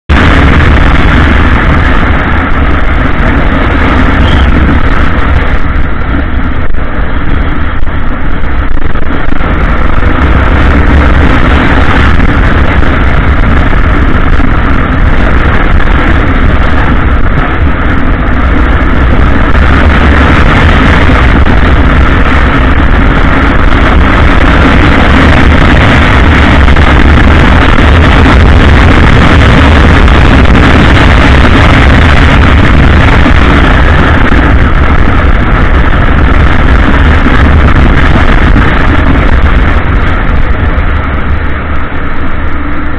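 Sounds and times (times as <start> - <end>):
motorcycle engine running: 0.0 - 42.9
wind rumble on microphone: 0.0 - 42.9.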